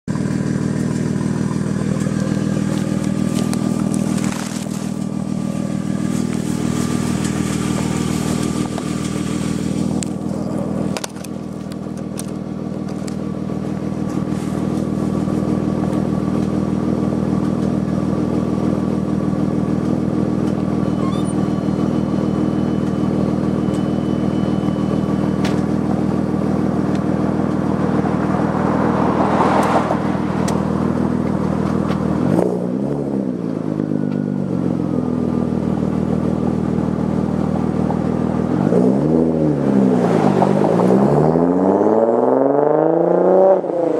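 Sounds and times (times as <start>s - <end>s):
car engine idling: 0.1s - 41.1s.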